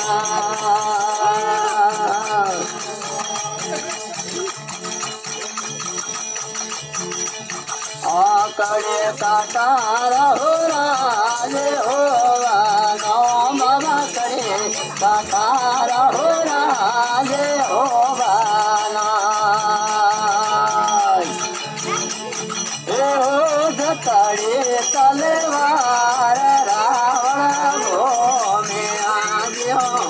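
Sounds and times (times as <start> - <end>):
person singing: 0.0 - 4.9, 8.0 - 30.0
rattling jingling percussion: 0.0 - 30.0.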